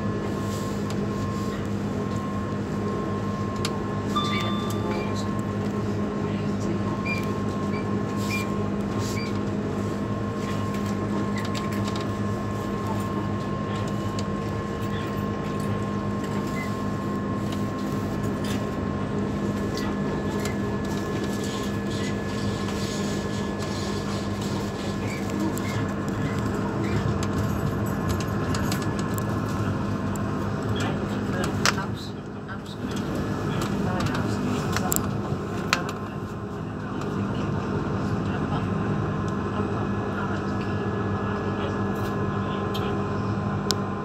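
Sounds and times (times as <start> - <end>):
wheels rumbling on track: 0.0 - 38.7
tram hum with fixed tones: 0.0 - 44.0.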